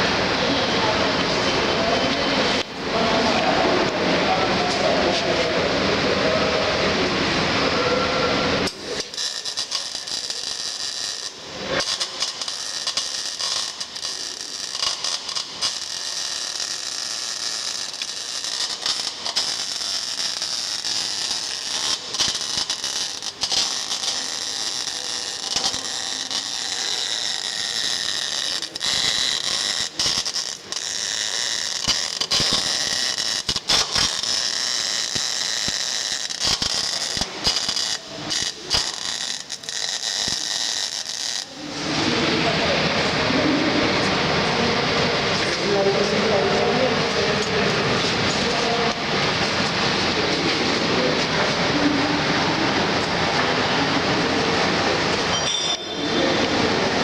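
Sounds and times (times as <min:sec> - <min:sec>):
welding arc crackling: 0:08.4 - 0:55.4.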